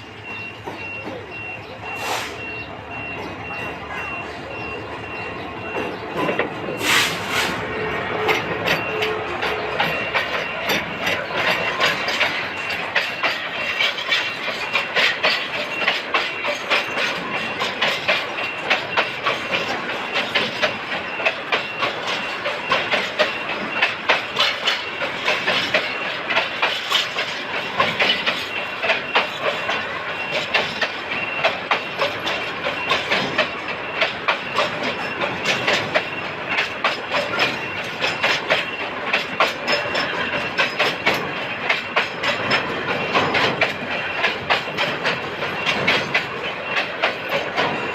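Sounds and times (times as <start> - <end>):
train wheels clattering over rails: 0.0 - 47.9.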